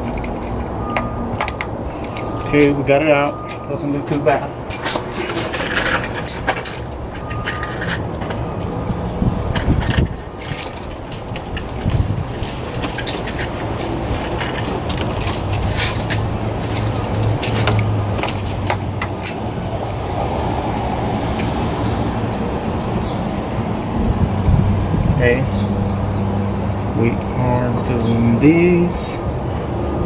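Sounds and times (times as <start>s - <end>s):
metal tools clinking: 0.0s - 20.0s, 25.0s - 30.0s.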